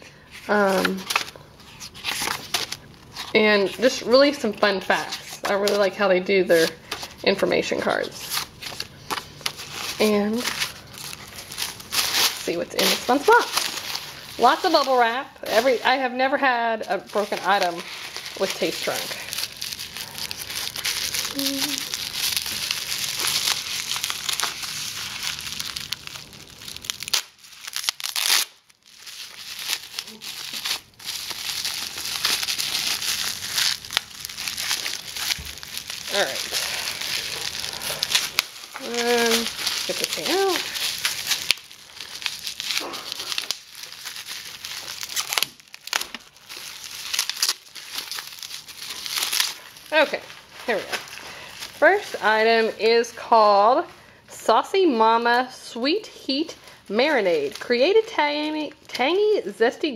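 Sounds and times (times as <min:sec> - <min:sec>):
bubble wrap crinkling: 0:00.2 - 0:54.0, 0:55.2 - 0:59.4.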